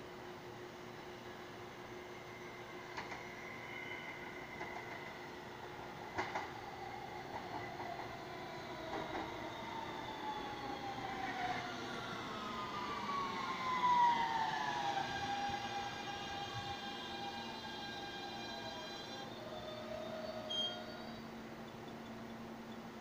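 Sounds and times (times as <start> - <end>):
subway train motor whine: 0.0 - 23.0.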